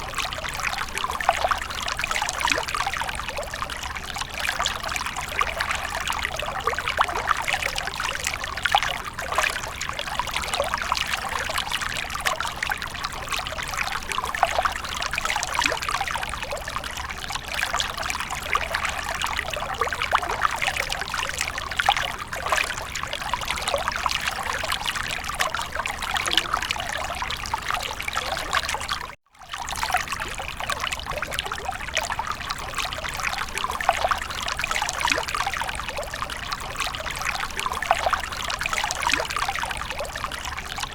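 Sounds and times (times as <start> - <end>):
water fountain trickling and splashing: 0.0 - 40.9.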